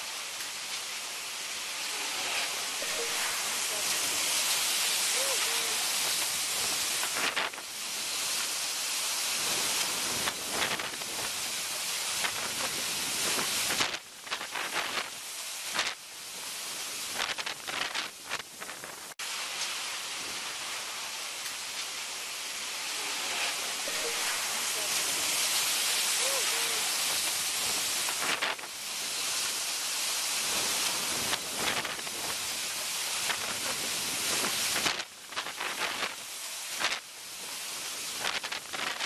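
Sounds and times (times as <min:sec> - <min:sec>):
driving rain: 0:00.0 - 0:39.0
storm wind: 0:00.0 - 0:39.0
storm-surge spray: 0:00.0 - 0:39.0.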